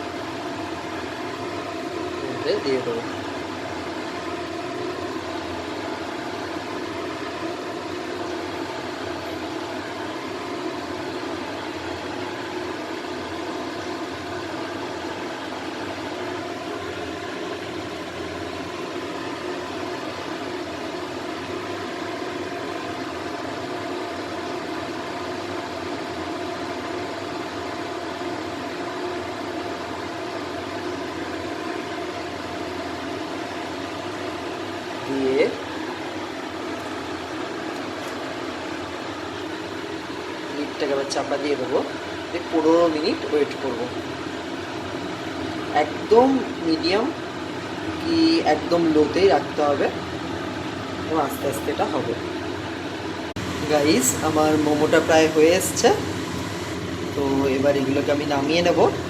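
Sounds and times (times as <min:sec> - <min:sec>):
fan motor whirring: 0:00.0 - 0:59.0.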